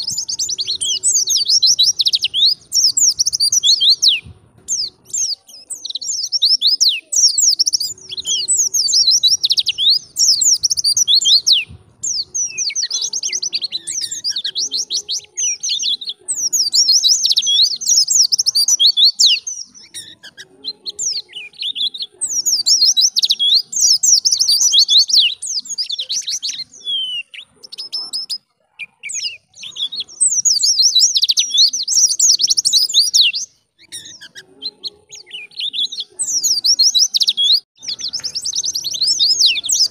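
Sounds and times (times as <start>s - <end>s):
bird high-pitched twittering: 0.0s - 39.9s.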